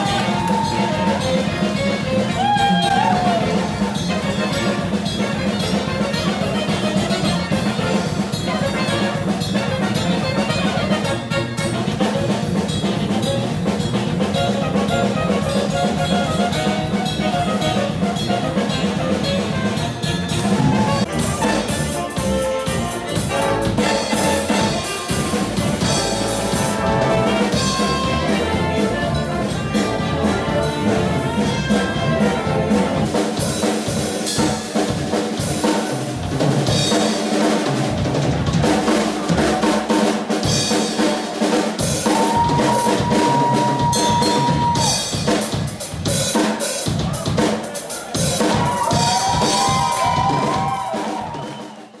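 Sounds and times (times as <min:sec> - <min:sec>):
jazz big band playing: 0:00.0 - 0:52.0.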